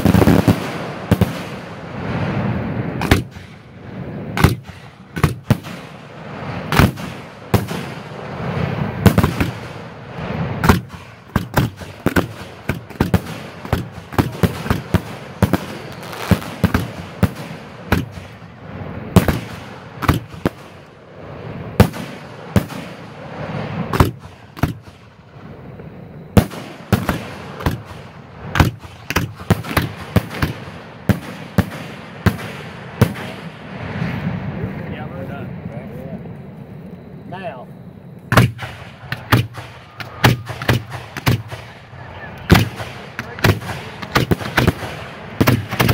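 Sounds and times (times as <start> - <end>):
fireworks shells launching: 0.0 - 34.4, 38.3 - 45.9
fireworks bursting bangs: 0.0 - 35.7, 38.3 - 45.9.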